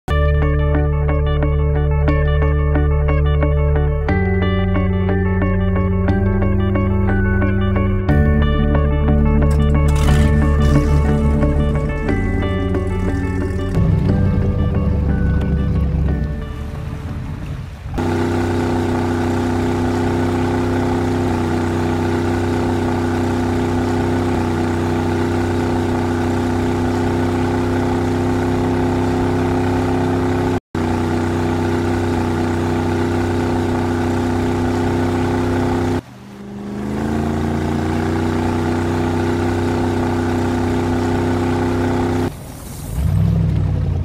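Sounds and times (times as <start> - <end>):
motorboat engine humming: 0.1 - 44.0.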